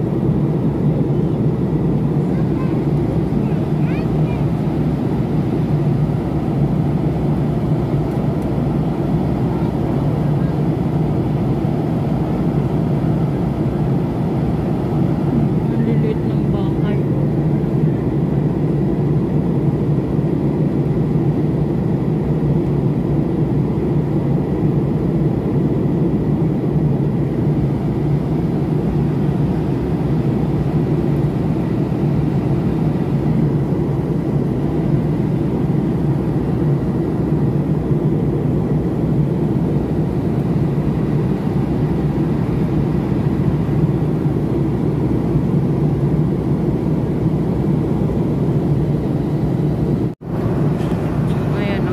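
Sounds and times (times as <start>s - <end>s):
airliner cabin engine drone: 0.0s - 51.9s.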